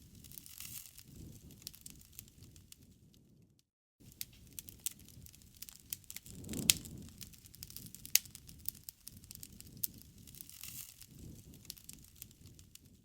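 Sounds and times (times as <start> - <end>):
bonfire crackling and popping: 0.0 - 13.0
low rush of flames: 0.0 - 13.0.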